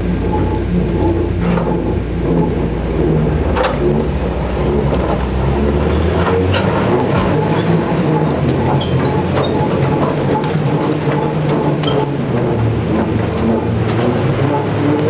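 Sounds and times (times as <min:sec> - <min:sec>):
heavy engine running under load: 0:00.0 - 0:15.0.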